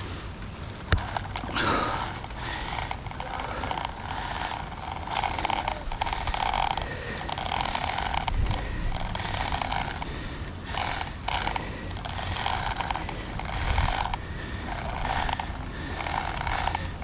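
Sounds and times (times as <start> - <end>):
wind rumble on microphone: 0.0 - 17.0
person breathing hard: 1.0 - 17.0.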